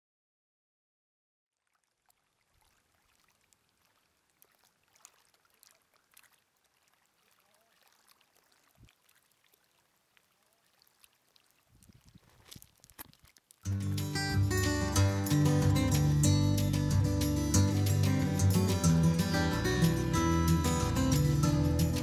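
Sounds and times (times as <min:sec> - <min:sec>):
water trickling over stones: 0:01.5 - 0:22.0.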